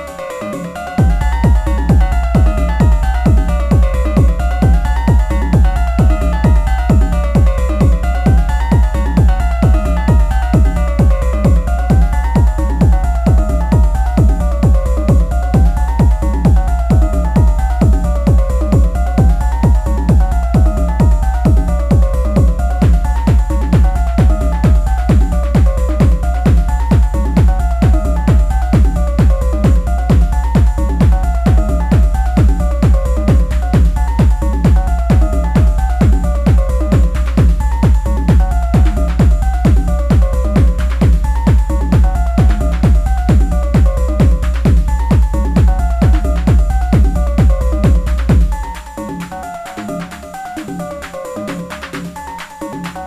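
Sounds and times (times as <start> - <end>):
deep held bass: 0.0 - 53.0
kick drum pulse: 0.0 - 53.0
repeating synth riff: 0.0 - 53.0.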